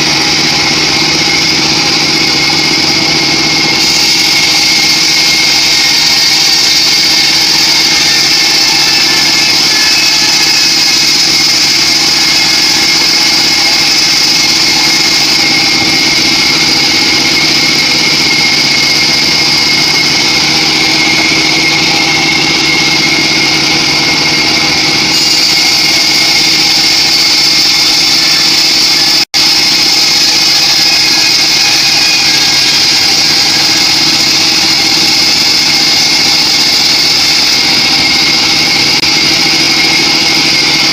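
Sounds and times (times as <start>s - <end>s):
band sawmill sawing log: 0.0s - 40.9s.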